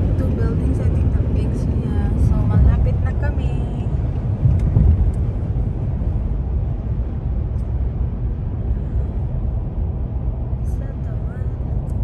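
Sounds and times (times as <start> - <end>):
car road noise rumble: 0.0 - 12.0.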